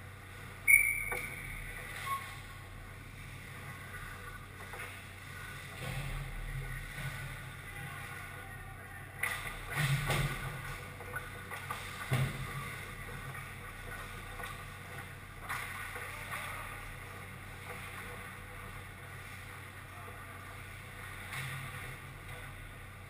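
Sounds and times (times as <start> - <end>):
low hum of rink: 0.0 - 23.0.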